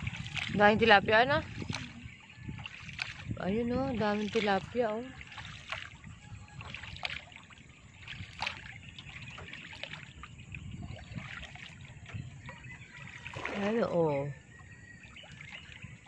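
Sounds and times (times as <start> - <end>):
short splashes: 0.0 - 14.3, 15.1 - 16.0
water lapping around a boat: 0.0 - 16.0.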